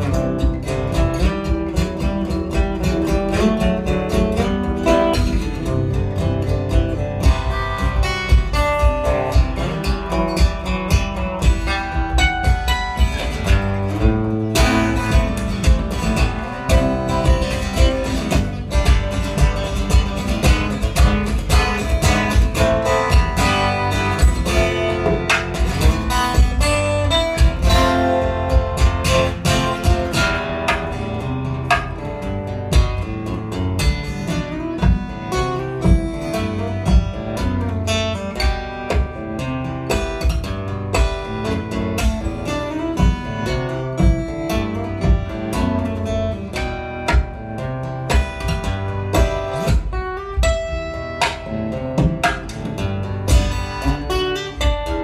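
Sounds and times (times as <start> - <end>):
fingerstyle acoustic guitar: 0.0 - 55.0
percussive knocks on guitar: 0.0 - 55.0.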